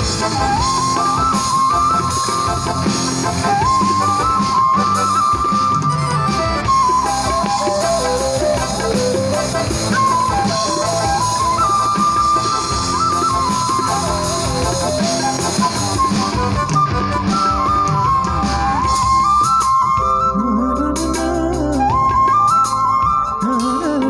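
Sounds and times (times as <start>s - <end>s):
instrumental melody with accompaniment: 0.0s - 24.0s.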